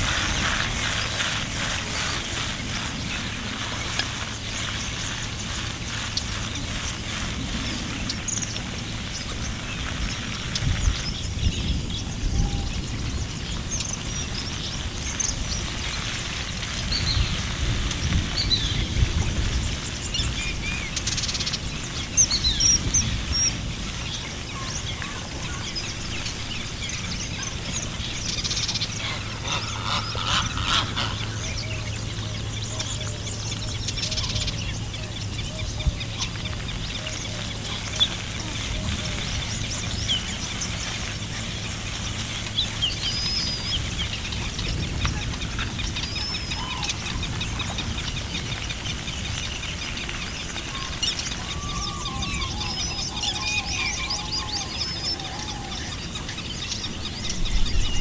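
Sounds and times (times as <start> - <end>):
birds chirping and calling: 0.0 - 58.0
low steady hum: 0.0 - 58.0.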